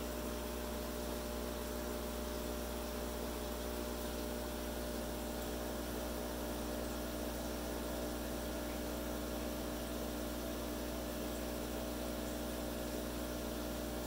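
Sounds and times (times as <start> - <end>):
aquarium equipment humming: 0.0 - 14.0.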